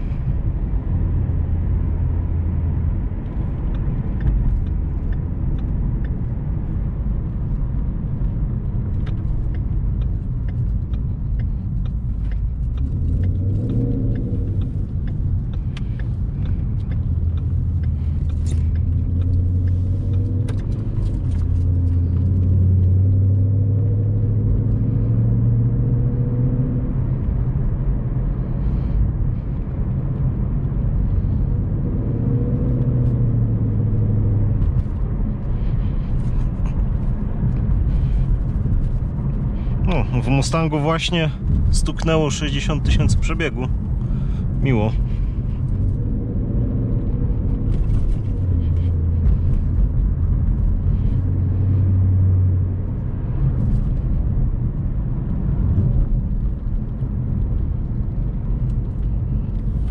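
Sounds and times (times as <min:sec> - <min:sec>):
car engine rumble from inside cabin: 0:00.0 - 0:59.9.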